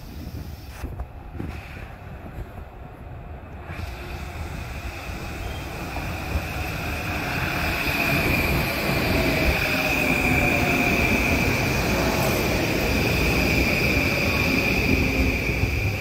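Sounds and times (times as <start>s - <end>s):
train rumbling into station: 0.0s - 16.0s.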